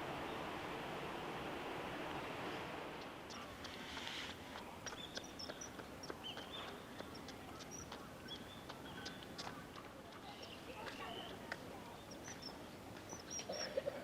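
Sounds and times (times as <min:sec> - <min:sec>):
river water flowing: 0:00.0 - 0:13.5
small birds chirping: 0:02.5 - 0:13.8.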